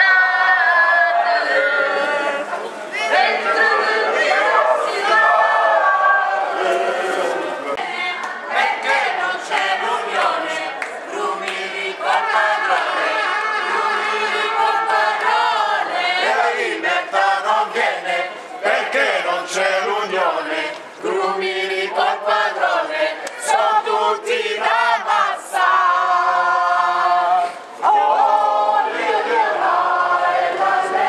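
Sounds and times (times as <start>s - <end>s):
crowd chanting and singing: 0.0s - 31.0s.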